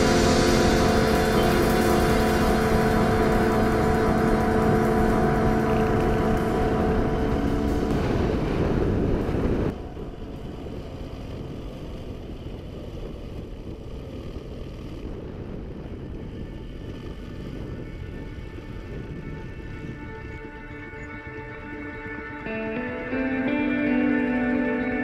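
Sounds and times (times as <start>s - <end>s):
motorcycle engine drone: 0.0s - 25.0s
wind rush on microphone: 0.0s - 25.0s.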